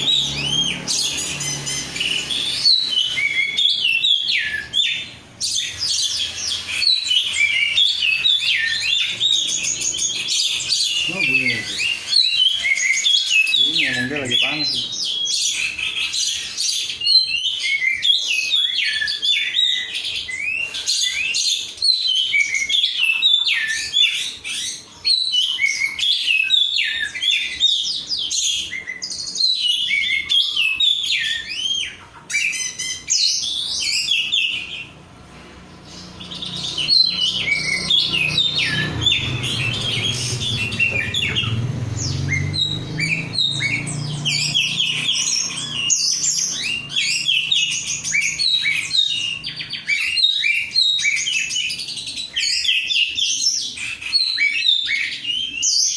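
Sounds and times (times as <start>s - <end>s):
bird singing whistles and trills: 0.0s - 35.0s, 35.8s - 55.9s.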